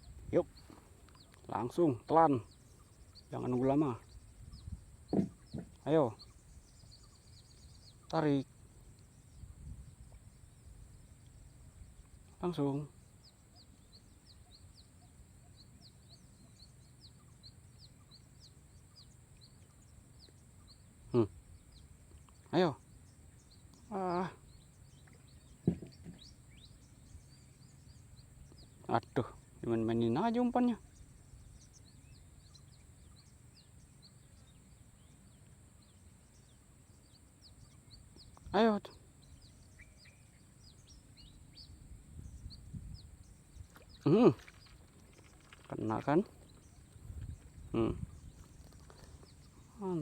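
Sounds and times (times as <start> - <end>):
small bird chirping: 0.0 - 50.0.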